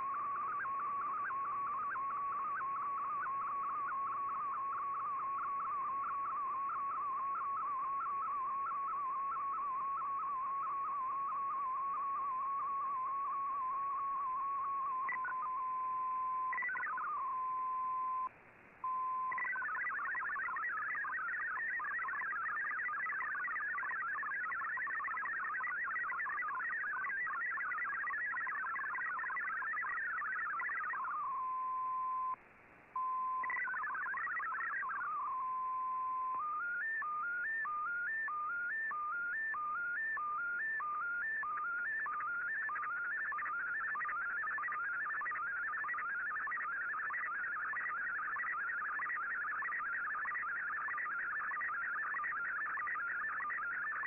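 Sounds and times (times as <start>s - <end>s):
hopping beeping data tones: 0.0s - 18.3s, 18.9s - 32.4s, 33.0s - 54.0s.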